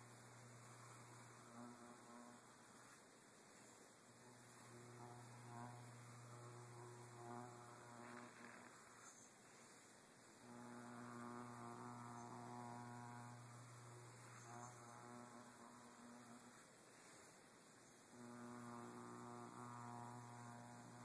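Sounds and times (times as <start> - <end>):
faint low electrical buzz: 0.0 - 21.0.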